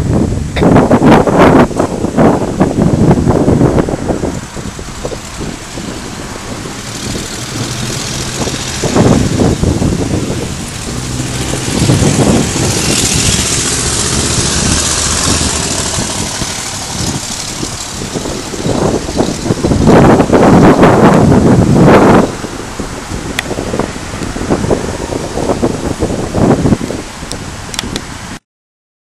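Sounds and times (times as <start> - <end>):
wind noise on microphone: 0.0 - 28.4
vehicle engine running: 1.6 - 26.6.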